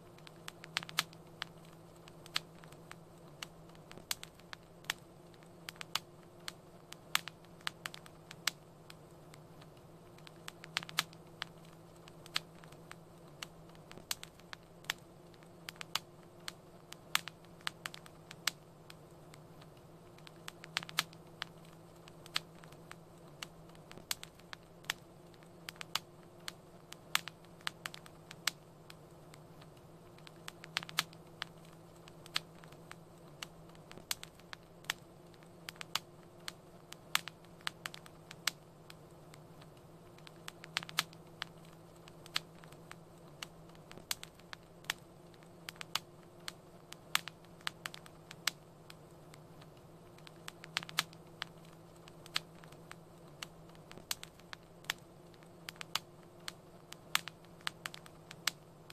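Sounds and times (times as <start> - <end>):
faint low hum: 0.0 - 58.9
wood fire crackling: 0.0 - 58.9.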